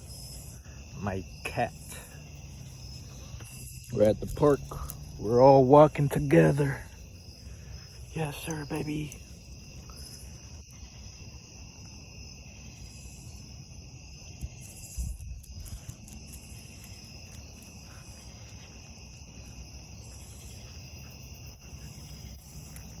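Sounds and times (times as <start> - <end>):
insects trilling: 0.0 - 23.0
low rumble of wind: 0.0 - 23.0.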